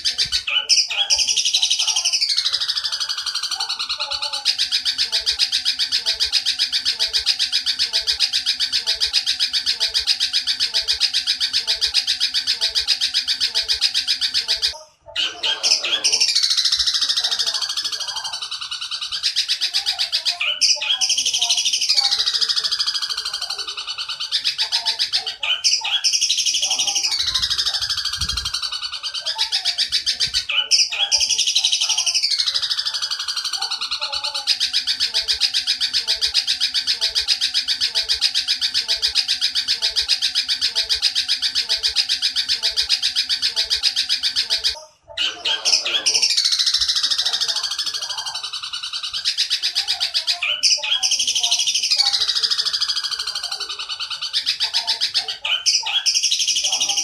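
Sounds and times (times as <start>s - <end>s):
fast bird chatter: 0.0s - 57.0s.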